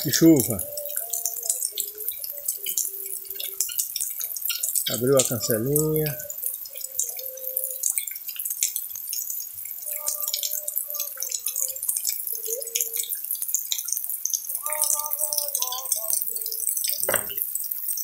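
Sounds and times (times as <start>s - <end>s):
heavy rain dripping: 0.0s - 18.0s.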